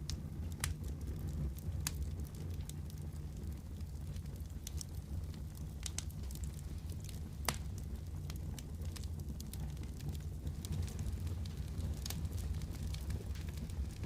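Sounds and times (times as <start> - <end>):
fire crackling in a fireplace: 0.0 - 14.0.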